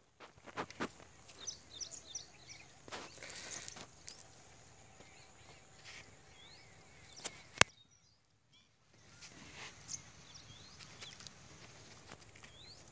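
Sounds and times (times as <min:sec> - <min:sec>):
faint outdoor background noise: 0:00.0 - 0:12.9
small birds chirping: 0:00.4 - 0:12.9.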